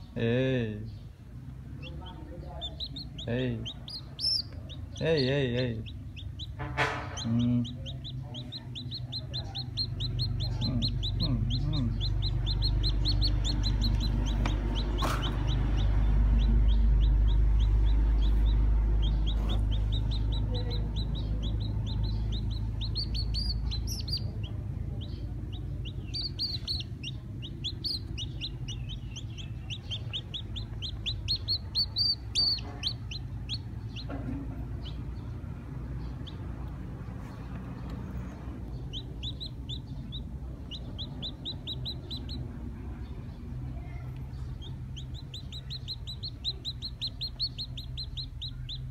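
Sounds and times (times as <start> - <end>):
chick peeping: 0.0 - 48.9
low rumble: 7.2 - 48.5.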